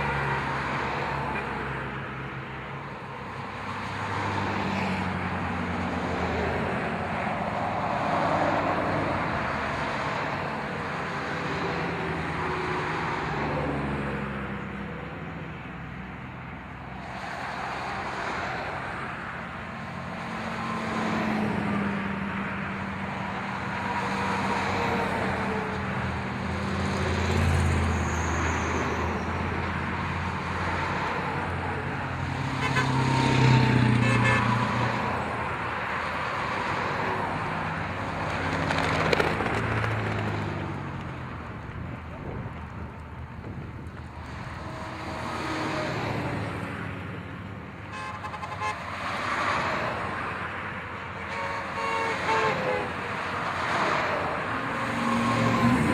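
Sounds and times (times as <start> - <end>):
tow trucks driving past: 0.0 - 55.9.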